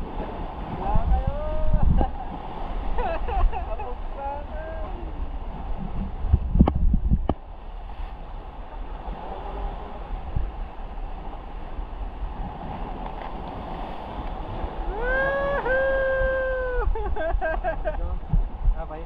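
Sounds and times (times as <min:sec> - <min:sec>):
surf sloshing over rocks: 0:00.0 - 0:19.0
wind on microphone: 0:00.0 - 0:19.0.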